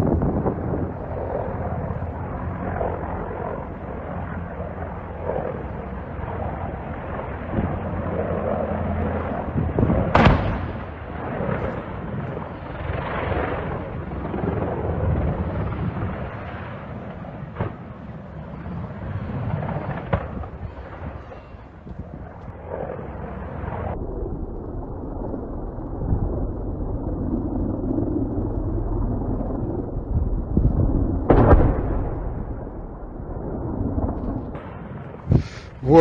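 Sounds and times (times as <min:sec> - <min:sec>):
helicopter flying overhead: 0:00.0 - 0:36.0.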